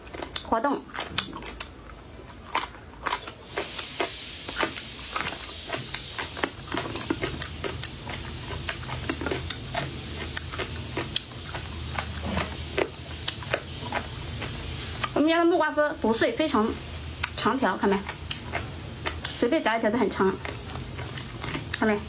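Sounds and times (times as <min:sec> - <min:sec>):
crunchy chewing: 0:00.0 - 0:15.3, 0:17.2 - 0:22.0
low steady hum: 0:00.0 - 0:22.0.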